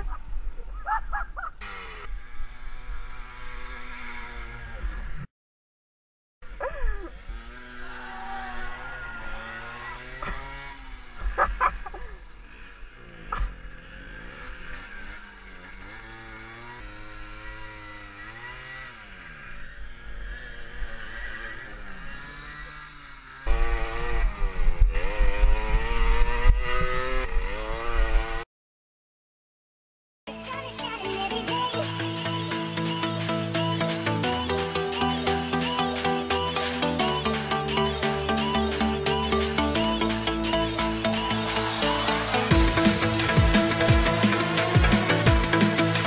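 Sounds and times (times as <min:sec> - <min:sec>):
two-stroke motorcycle engines revving: 0:01.6 - 0:05.2, 0:06.8 - 0:28.4, 0:31.6 - 0:46.0.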